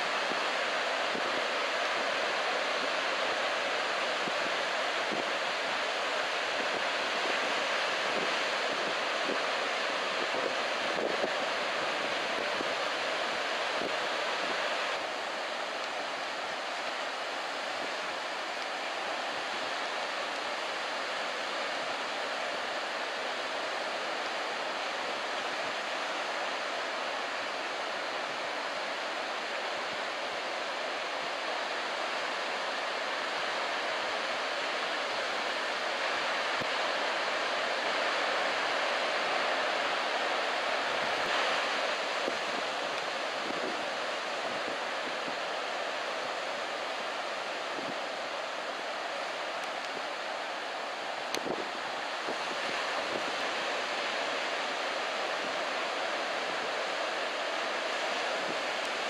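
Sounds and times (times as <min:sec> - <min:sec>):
surf hissing on beach: 0:00.0 - 0:59.0.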